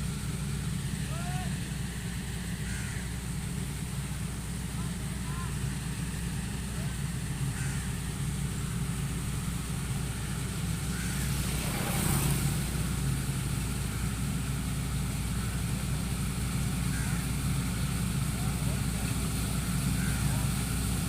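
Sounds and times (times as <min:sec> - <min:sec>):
harvester engine running: 0:00.0 - 0:21.0.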